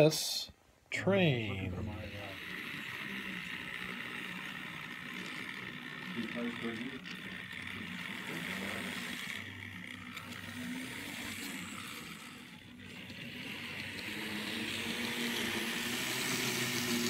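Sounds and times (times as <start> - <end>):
model train motor whir: 1.4 - 17.0.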